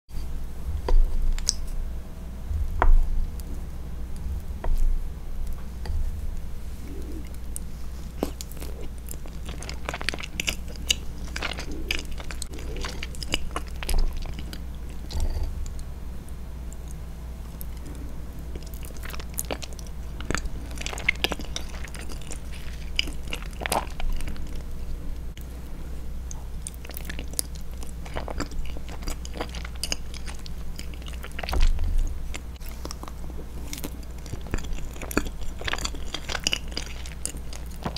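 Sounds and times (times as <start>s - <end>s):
steady low hum: 0.1s - 37.9s
steady low rumble: 0.1s - 37.9s
close chewing of soft cake: 4.2s - 37.9s.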